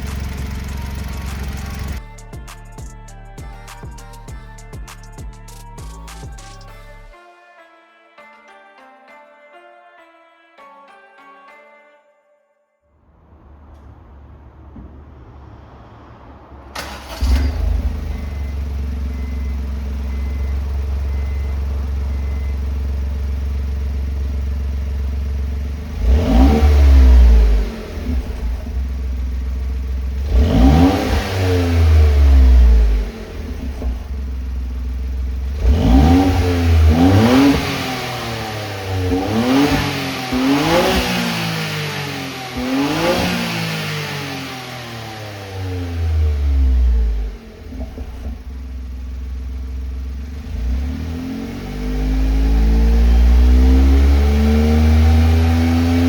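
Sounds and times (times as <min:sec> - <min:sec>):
car engine starting and revving: 0:00.0 - 0:02.5, 0:13.1 - 0:56.0.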